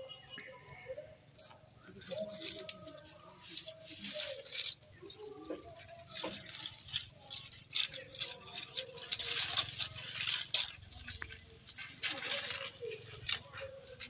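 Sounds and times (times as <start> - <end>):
leaves and stems rustling: 1.3 - 14.0.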